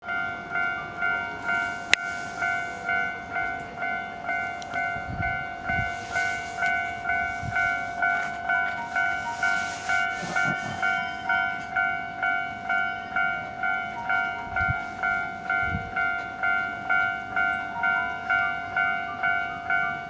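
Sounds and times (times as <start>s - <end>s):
level-crossing warning bell: 0.0s - 20.0s.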